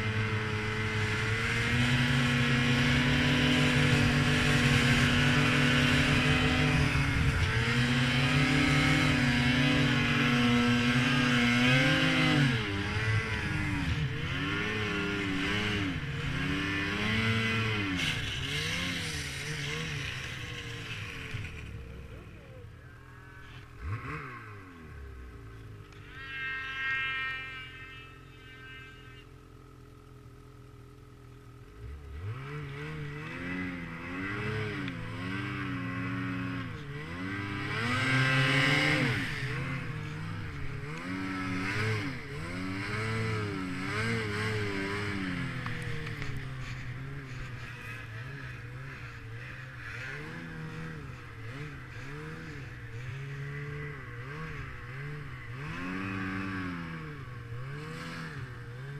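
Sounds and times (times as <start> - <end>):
snowmobile engine revving: 0.0 - 29.6, 31.5 - 58.9.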